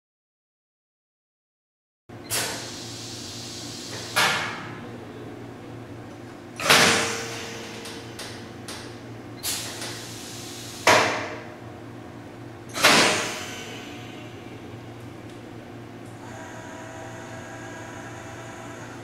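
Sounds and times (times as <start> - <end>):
low machine hum: 2.1 - 19.0.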